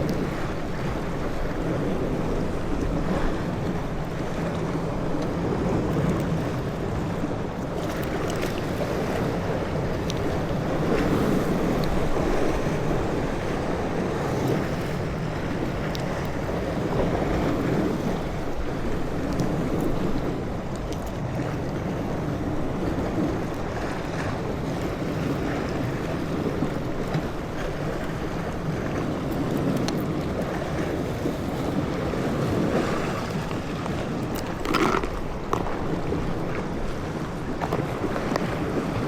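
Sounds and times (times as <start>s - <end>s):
sea water washing: 0.0s - 39.0s
wind on microphone: 0.0s - 39.0s.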